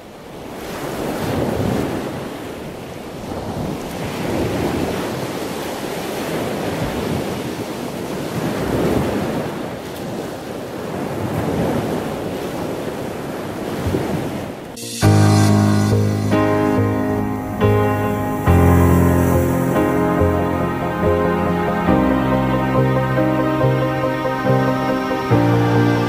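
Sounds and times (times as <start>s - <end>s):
ocean surf breaking: 0.4s - 26.0s.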